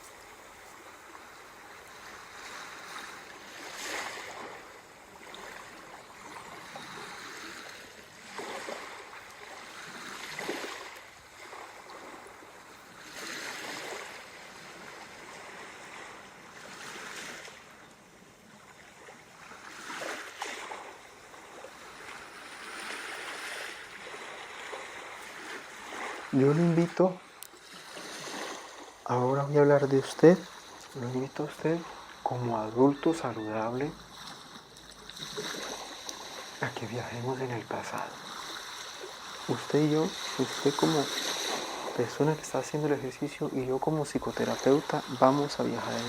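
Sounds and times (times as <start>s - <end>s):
sea waves washing onto shore: 0.0s - 46.0s.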